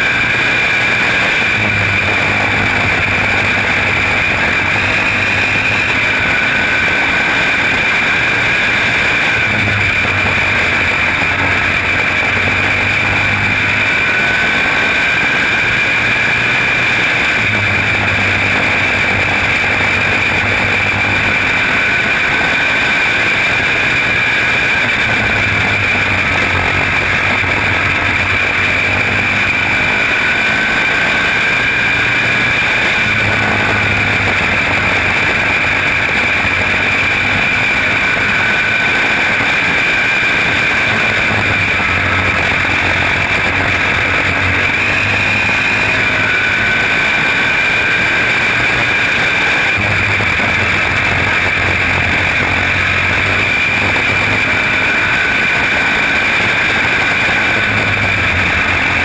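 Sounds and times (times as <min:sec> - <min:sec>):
kart engine running hard: 0:00.0 - 0:59.0
rush of wind noise: 0:00.0 - 0:59.0.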